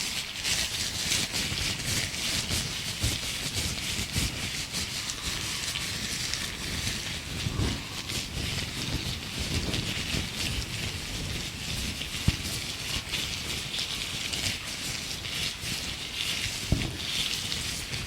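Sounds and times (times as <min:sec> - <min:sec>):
gloves crinkling rustle: 0:00.0 - 0:18.0.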